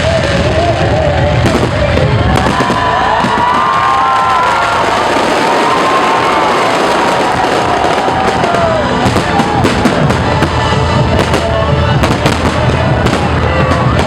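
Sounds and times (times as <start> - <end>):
crowd shouting and cheering: 0.0 - 14.0
fireworks bangs and crackles: 0.0 - 14.0.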